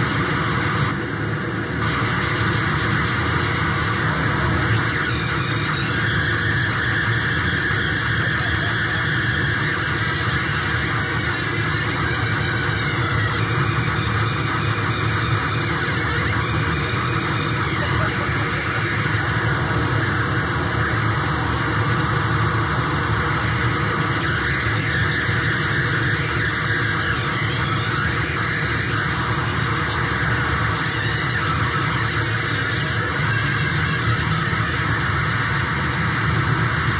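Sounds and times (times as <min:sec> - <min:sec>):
harsh electronic noise music: 0:00.0 - 0:36.9
high squeal: 0:00.0 - 0:36.9.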